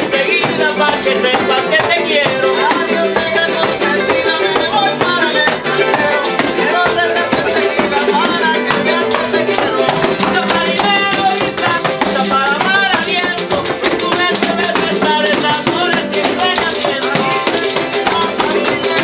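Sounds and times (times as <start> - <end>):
strummed string instruments: 0.0 - 19.0
tambourine shaken and struck: 0.0 - 19.0.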